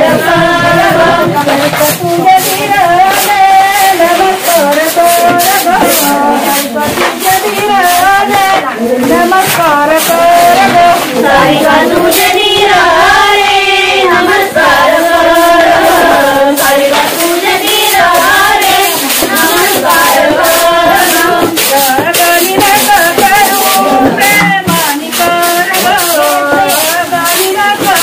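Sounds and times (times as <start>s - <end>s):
group of women singing: 0.0s - 28.0s.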